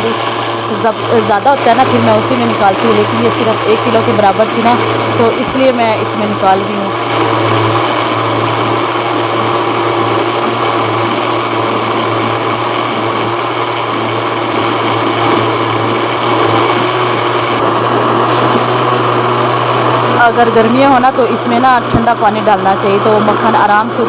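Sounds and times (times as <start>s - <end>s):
electric blender running: 0.0s - 24.0s.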